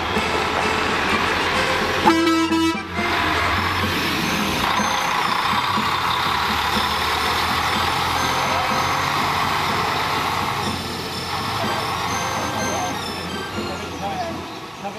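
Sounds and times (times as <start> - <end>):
coach diesel engine running: 0.0 - 14.9.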